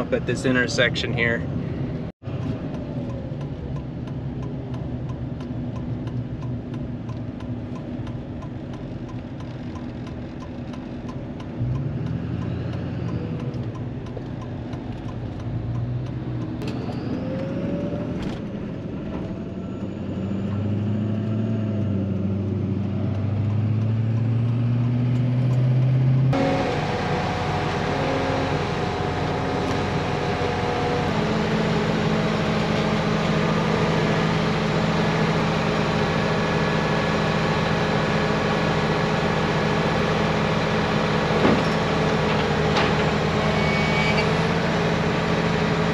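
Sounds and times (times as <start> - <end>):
truck engine shifting gears: 0.0 - 45.9.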